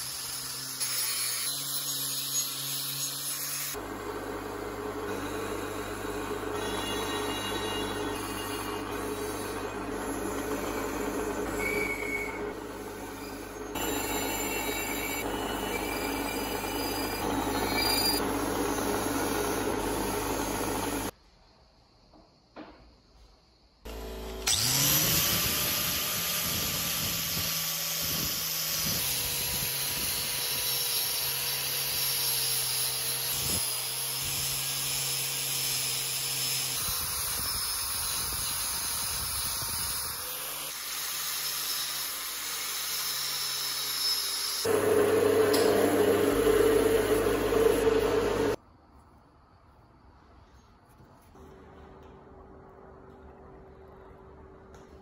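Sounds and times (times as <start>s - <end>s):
angle grinder grinding steel: 0.0s - 3.8s, 5.0s - 21.1s, 23.9s - 48.6s
drill with abrasive wheel grinding: 0.0s - 21.1s, 23.9s - 48.6s.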